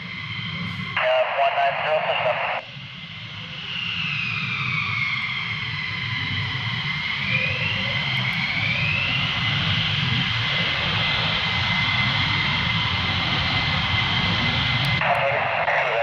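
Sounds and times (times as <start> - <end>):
jet engine whining: 0.0 - 16.0.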